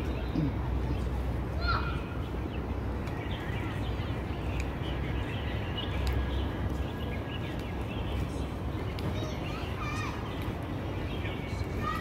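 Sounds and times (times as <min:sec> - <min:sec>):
low rumble of city noise: 0:00.0 - 0:12.0
small birds chirping: 0:00.0 - 0:12.0.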